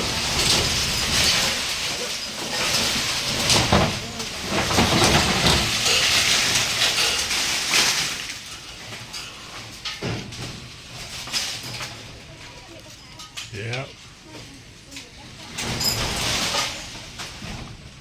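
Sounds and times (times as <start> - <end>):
tree branches crashing down: 0.0 - 12.4, 15.4 - 18.0.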